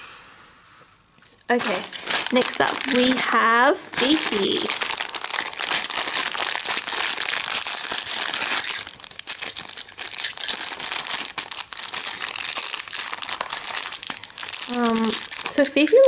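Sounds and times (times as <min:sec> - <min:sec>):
plastic bag crinkling and tearing: 0:01.4 - 0:16.0.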